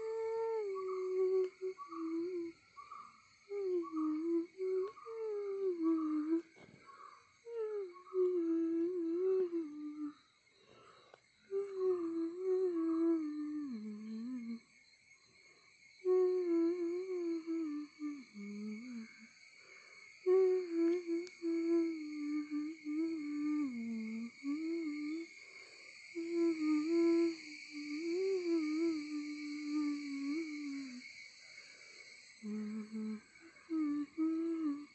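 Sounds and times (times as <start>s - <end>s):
person humming a slow tune: 0.0s - 6.6s, 7.5s - 10.3s, 11.5s - 14.6s, 16.0s - 19.5s, 20.2s - 25.3s, 26.0s - 31.2s, 32.4s - 34.9s.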